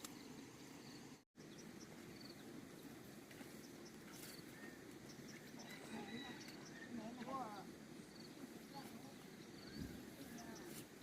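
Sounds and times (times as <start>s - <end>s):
faint rural outdoor ambience: 0.0s - 11.0s.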